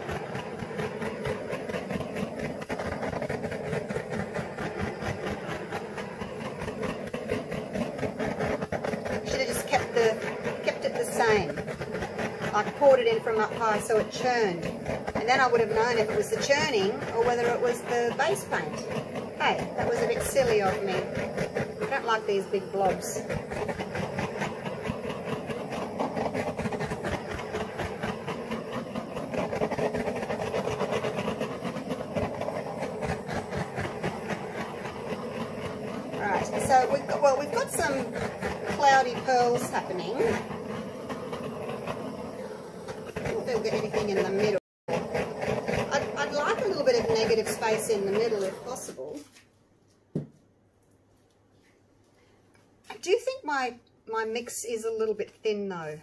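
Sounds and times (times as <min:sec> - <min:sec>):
blowtorch flame fluttering: 0:00.0 - 0:50.5, 0:51.2 - 0:56.0.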